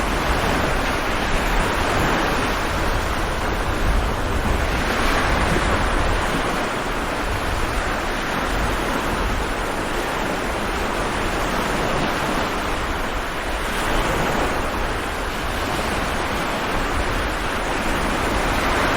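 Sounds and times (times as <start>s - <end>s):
stormy sea waves breaking: 0.0s - 18.9s.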